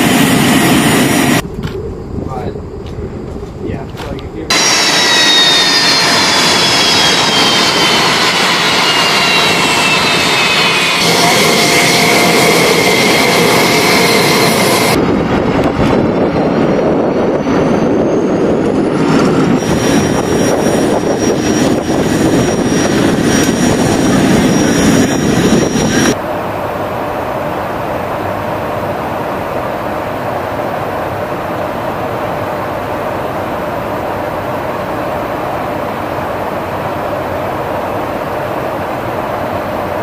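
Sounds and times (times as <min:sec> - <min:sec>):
jet engine rush and whine: 0:00.0 - 0:40.0.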